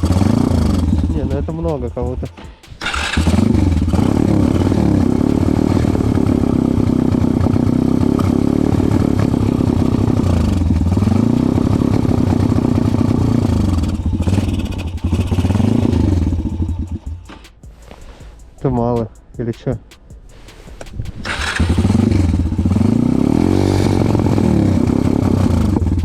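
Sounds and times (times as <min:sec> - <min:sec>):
motorbike engine revving: 0:00.0 - 0:02.2, 0:02.8 - 0:17.5, 0:21.2 - 0:26.0.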